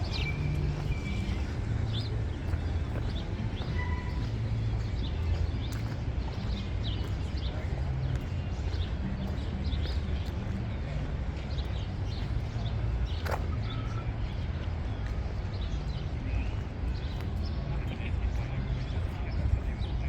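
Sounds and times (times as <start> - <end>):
birds chirping: 0.0 - 20.0
low traffic rumble: 0.0 - 20.0.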